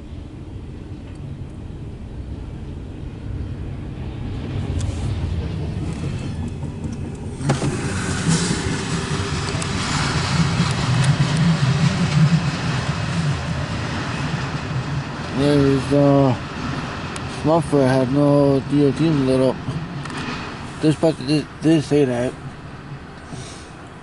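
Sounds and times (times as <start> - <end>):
freight train rumble: 0.0 - 24.0
wheels on rails: 4.2 - 24.0.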